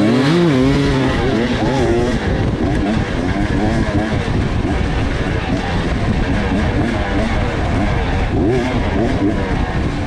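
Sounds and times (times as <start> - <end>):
off-road motorcycle engine revving: 0.0 - 10.0.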